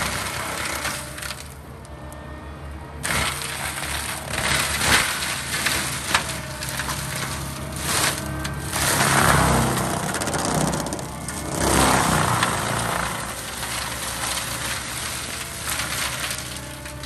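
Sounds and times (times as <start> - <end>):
loader engine running: 0.0 - 17.0
mulcher drum grinding wood: 0.0 - 17.0.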